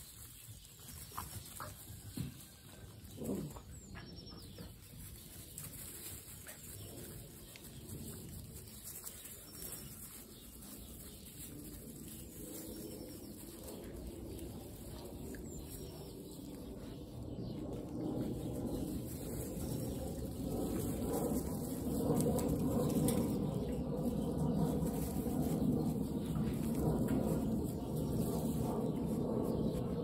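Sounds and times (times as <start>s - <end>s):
puppies rustling in hay: 0.0s - 30.0s.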